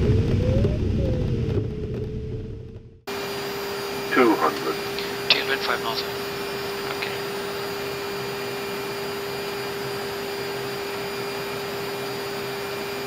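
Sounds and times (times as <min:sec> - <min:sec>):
cockpit air and engine rush: 0:00.0 - 0:13.0.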